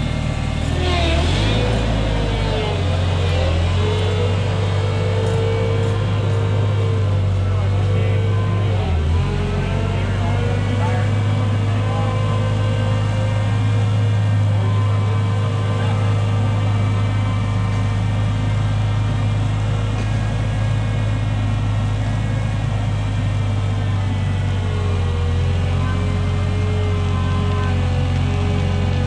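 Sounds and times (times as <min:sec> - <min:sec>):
forklift engine droning: 0:00.0 - 0:29.0.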